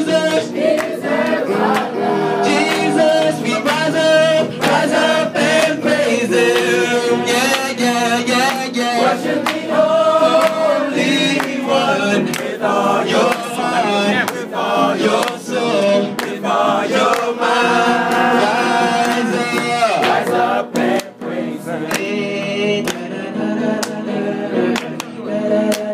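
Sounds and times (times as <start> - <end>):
group singing worship song: 0.0 - 25.9.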